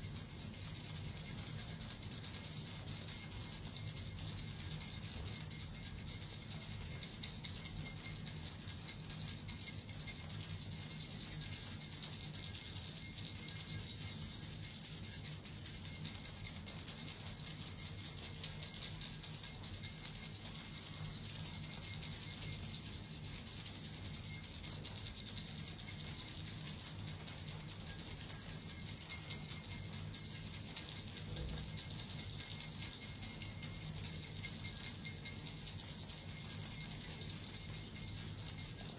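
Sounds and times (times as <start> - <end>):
small jingle bells shaken: 0.0 - 38.9.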